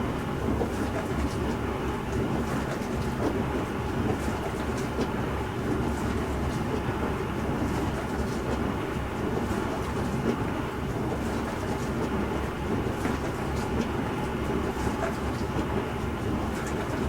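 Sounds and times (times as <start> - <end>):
dishwasher water churning: 0.0 - 17.0.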